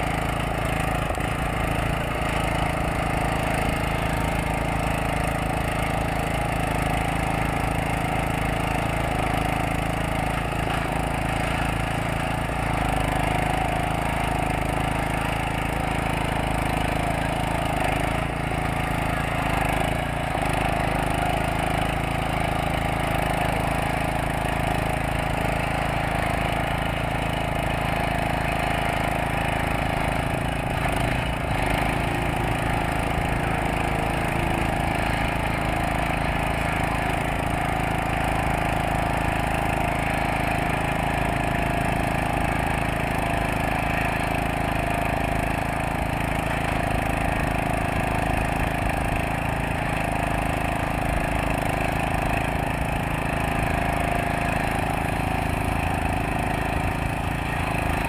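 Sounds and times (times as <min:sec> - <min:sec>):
rail grinder grinding steel: 0:00.0 - 0:58.0.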